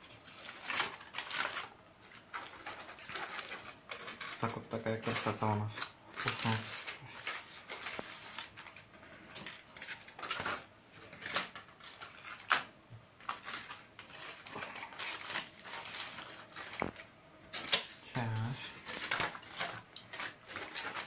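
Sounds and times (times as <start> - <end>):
aluminium foil crinkling: 0.0 - 21.0.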